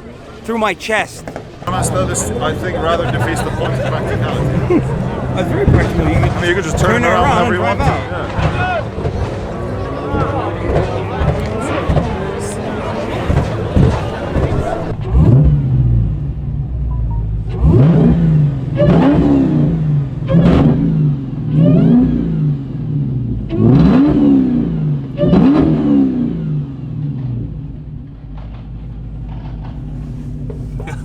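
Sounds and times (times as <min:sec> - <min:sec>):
car engine revving: 0:01.7 - 0:31.0.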